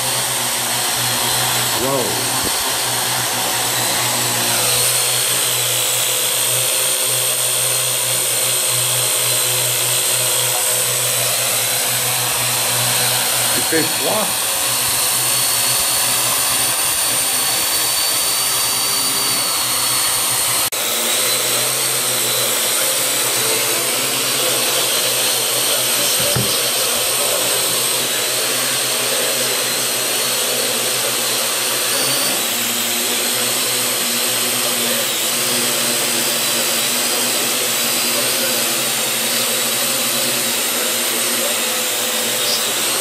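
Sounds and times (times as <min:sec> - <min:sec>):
drone propellers whirring: 0:00.0 - 0:43.0.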